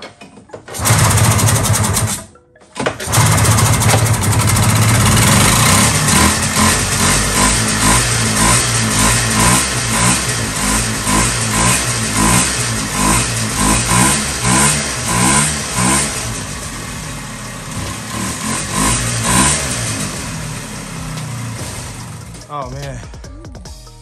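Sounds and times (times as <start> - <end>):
aircraft engine surging: 3.1 - 22.4.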